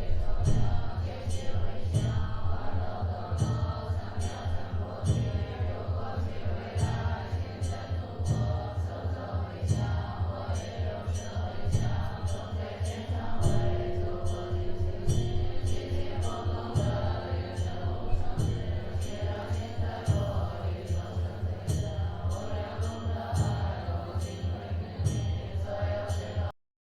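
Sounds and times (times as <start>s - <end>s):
women chanting together: 0.0s - 26.5s.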